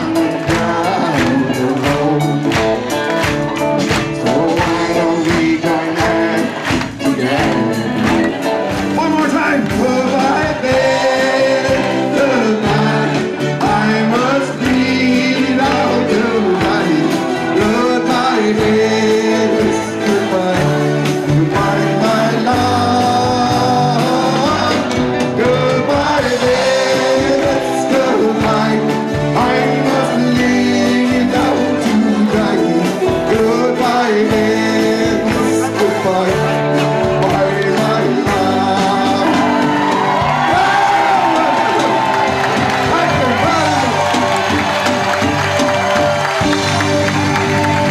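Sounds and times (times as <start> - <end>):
live band playing pop: 0.0 - 47.9
person singing: 0.0 - 47.9.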